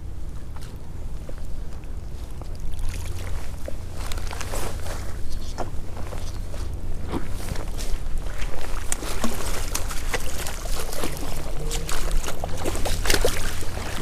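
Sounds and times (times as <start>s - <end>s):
steady low rumble: 0.0s - 14.0s
water splashing in a creek: 1.6s - 14.0s.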